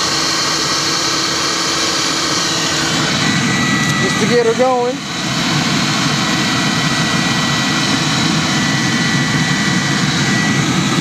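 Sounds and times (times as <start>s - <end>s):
faint high whine: 0.0s - 11.0s
forge burner roaring: 0.0s - 11.0s.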